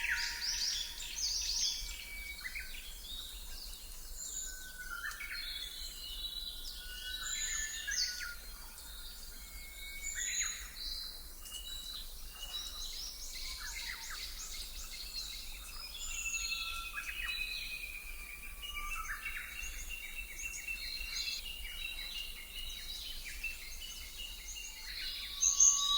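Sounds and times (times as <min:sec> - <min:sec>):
songbirds singing and calling: 0:00.0 - 0:25.9.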